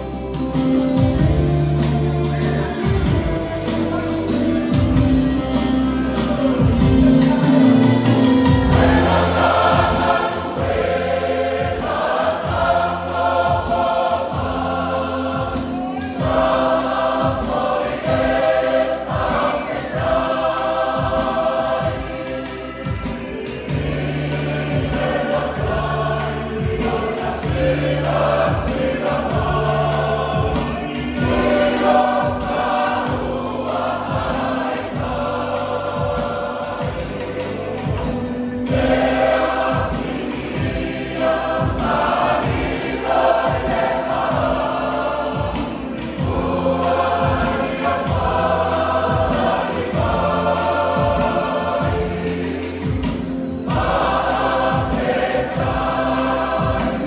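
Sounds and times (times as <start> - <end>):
choir singing a hymn: 0.0 - 57.0
low bass notes: 0.0 - 57.0
steady beat: 0.0 - 57.0.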